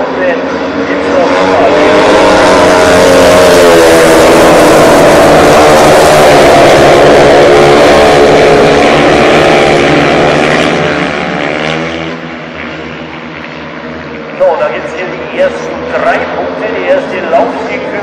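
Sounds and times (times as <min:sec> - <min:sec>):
motorcycles racing: 0:00.0 - 0:18.0.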